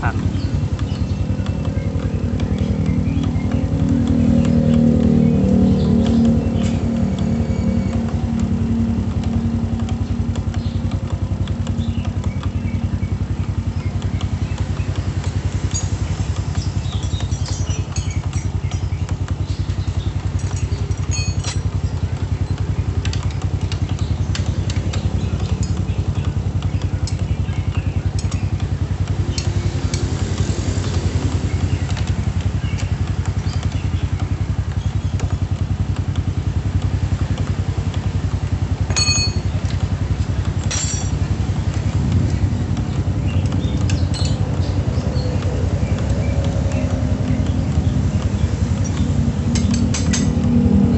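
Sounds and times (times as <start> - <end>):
light ticking: 0.0 - 50.9
motorcycle engine idling: 0.0 - 50.9.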